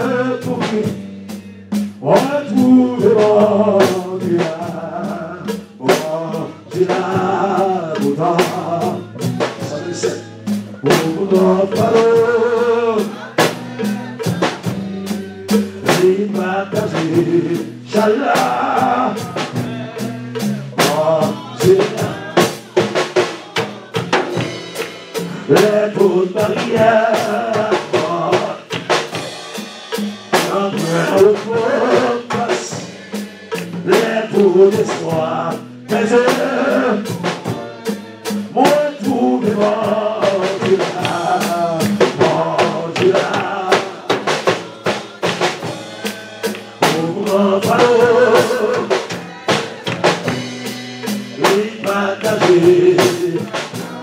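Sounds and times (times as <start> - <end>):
drum kit playing: 0.0 - 54.0
people singing: 0.0 - 54.0.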